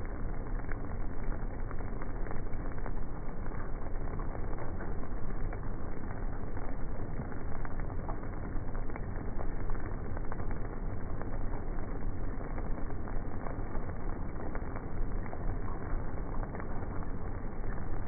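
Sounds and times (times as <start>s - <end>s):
rain ticking: 0.0s - 18.0s.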